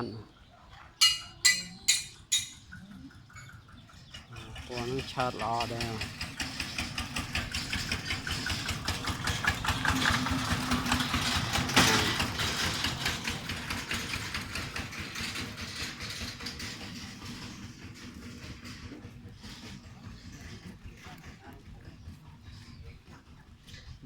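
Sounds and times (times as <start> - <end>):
engine running: 1.5 - 24.0.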